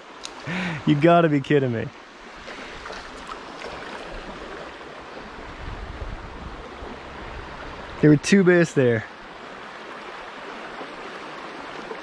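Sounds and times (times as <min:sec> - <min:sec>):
creek water over rocks: 0:00.0 - 0:12.0.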